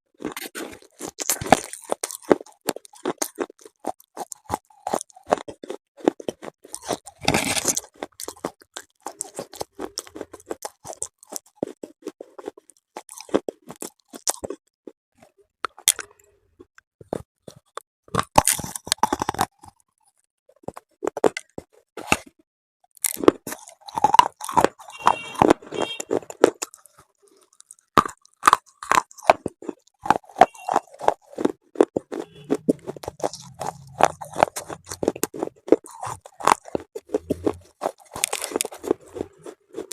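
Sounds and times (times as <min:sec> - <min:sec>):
chalky pieces crunching in mouth: 0:00.1 - 0:39.9.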